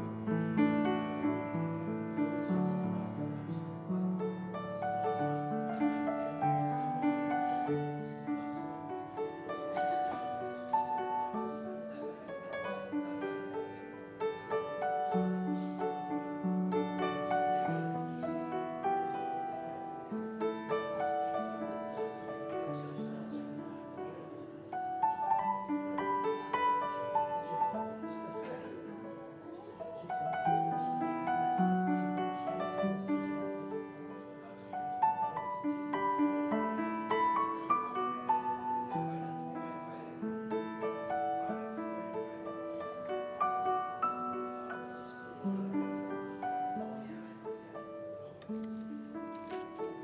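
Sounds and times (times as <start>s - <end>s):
slow keyboard piece in chords: 0.0s - 50.0s.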